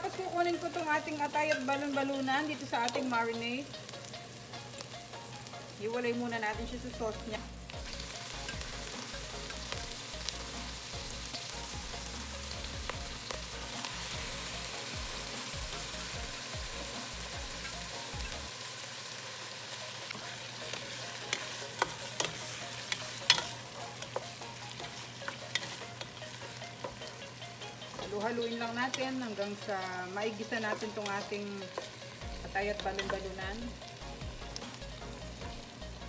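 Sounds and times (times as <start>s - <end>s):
meat sizzling in hot oil: 0.0s - 36.0s.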